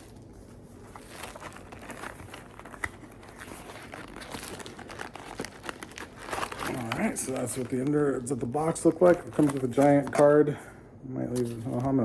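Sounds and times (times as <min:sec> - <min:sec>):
packaging crinkling and tearing: 0:00.0 - 0:10.4.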